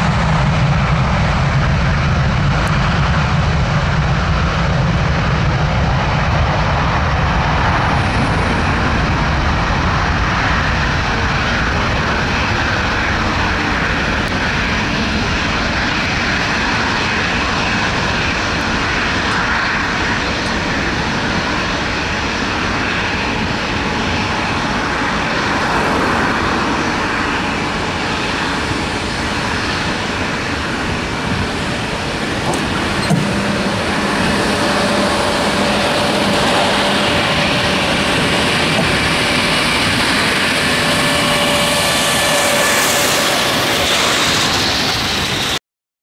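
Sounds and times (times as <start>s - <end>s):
jet engines at takeoff thrust: 0.0s - 45.6s.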